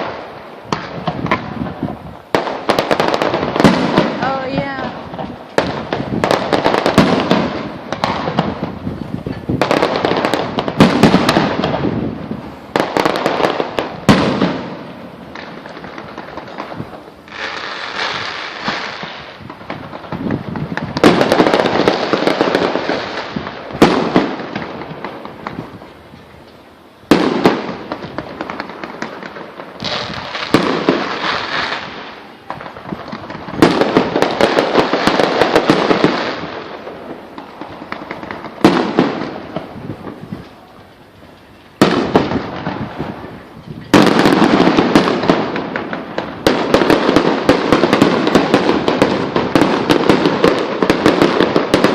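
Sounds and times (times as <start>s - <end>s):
fireworks bangs: 0.0s - 51.9s
fireworks crackling: 0.0s - 51.9s.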